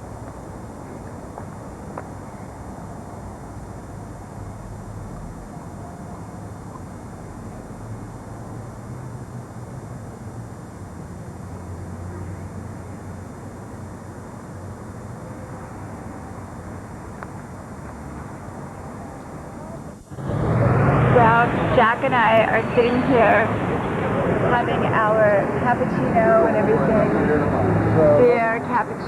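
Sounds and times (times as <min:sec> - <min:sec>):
car and scooter engines passing: 0:02.4 - 0:29.0.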